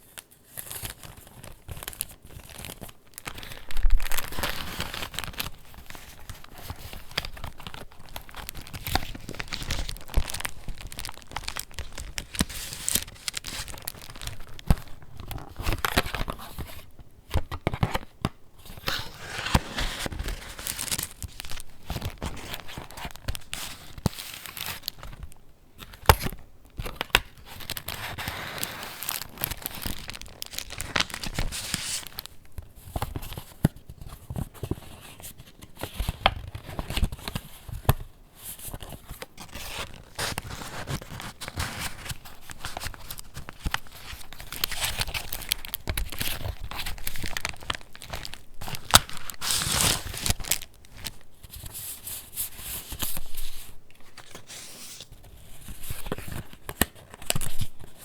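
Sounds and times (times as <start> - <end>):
paper pages rustling and crinkling: 0.0 - 58.0.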